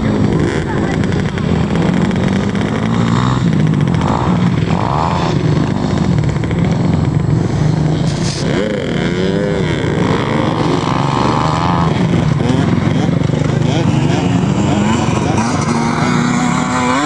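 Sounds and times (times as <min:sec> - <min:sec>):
dirt bike engines running: 0:00.0 - 0:17.0.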